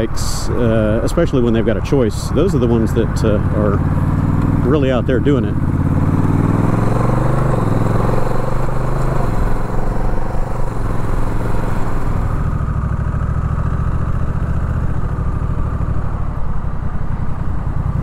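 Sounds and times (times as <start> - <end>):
motorcycle engine rumbling: 0.0 - 18.0
wind and road noise: 0.0 - 18.0.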